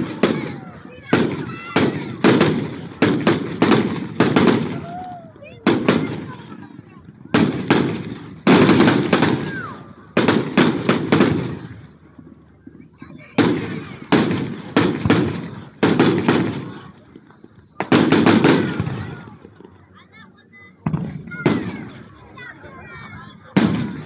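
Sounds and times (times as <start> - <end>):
fireworks bangs with rolling echo: 0.0 - 19.8, 20.8 - 24.0.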